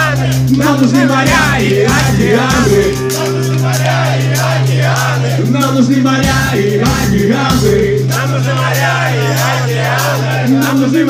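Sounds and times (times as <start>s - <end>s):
accordion: 0.0s - 11.0s
person singing: 0.0s - 11.0s
rock band playing: 0.0s - 11.0s.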